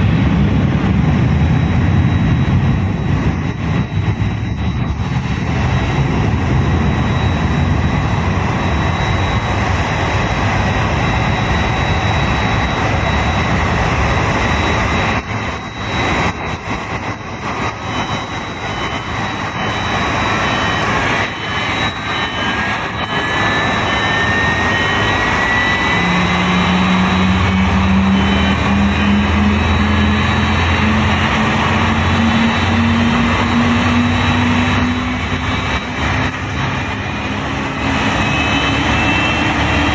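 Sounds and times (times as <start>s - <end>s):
engine whine rising in pitch: 0.0s - 39.9s
jet engine starting up: 0.0s - 39.9s
steady jet noise: 0.0s - 39.9s.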